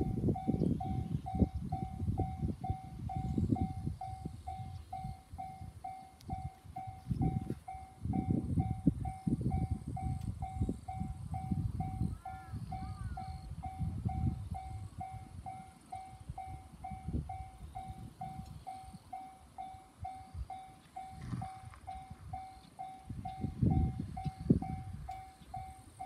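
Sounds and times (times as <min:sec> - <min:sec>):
level crossing alarm ringing: 0:00.0 - 0:26.0
wind rumble on microphone: 0:00.0 - 0:26.0.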